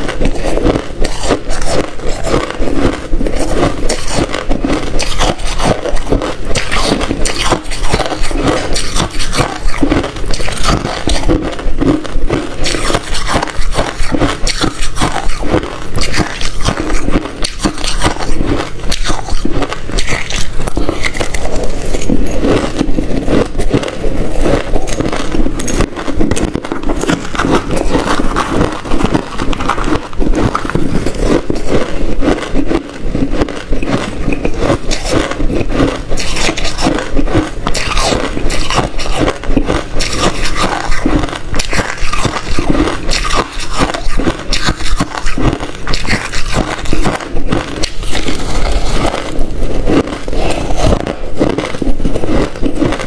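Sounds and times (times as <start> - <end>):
person crunching ice: 0.0 - 53.0.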